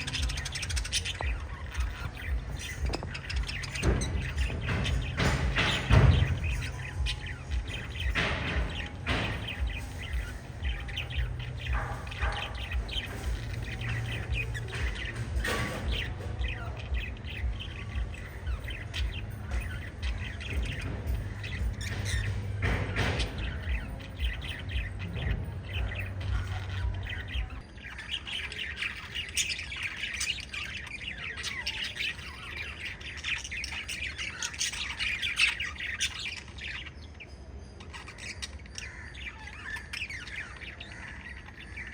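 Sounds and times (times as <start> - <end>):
lovebirds chirping: 0.0 - 41.9.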